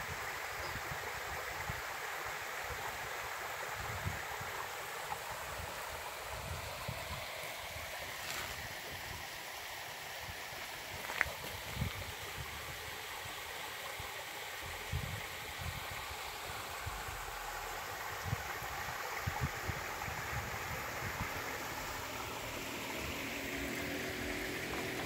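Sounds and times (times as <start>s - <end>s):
stream rushing over stones: 0.0s - 25.0s.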